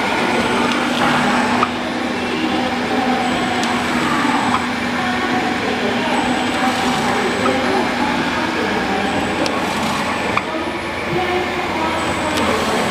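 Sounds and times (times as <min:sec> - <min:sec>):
machine running with hum: 0:00.0 - 0:12.9.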